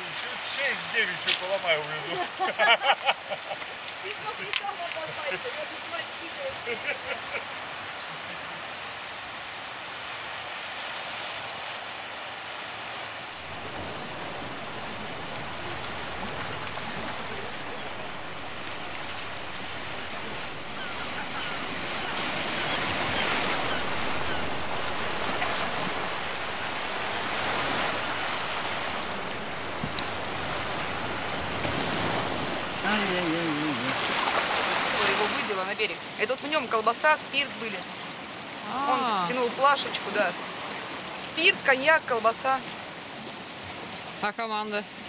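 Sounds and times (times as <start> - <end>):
sea waves washing in: 0.0 - 44.2.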